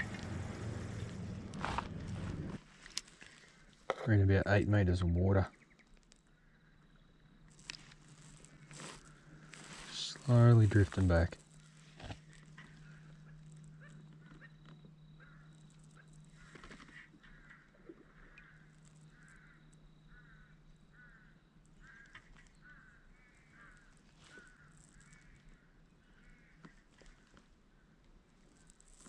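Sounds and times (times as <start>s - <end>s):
faint bird calls: 5.1s - 29.0s.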